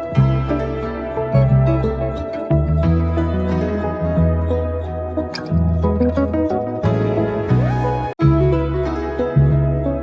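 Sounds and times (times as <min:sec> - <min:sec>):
plucked string melody: 0:00.0 - 0:10.0
sustained bass line: 0:00.0 - 0:10.0.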